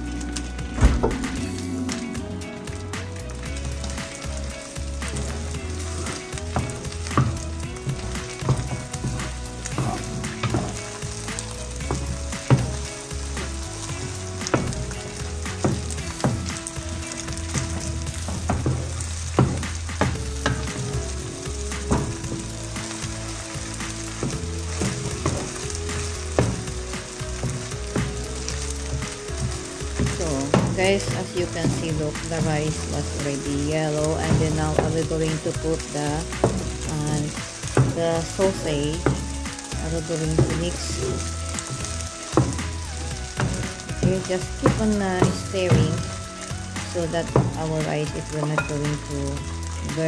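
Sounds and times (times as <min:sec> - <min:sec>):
food sizzling in a frying pan: 0:00.0 - 0:50.0.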